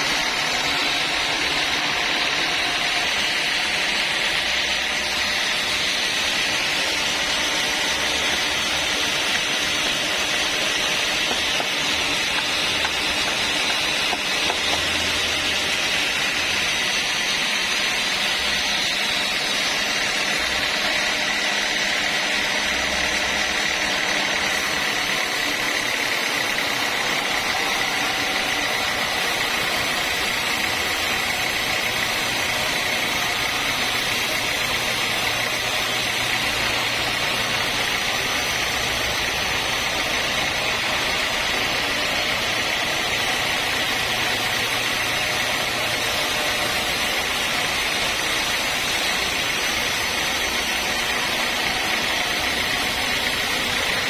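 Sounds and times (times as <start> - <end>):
sawmill saw cutting timber: 0.0 - 54.0.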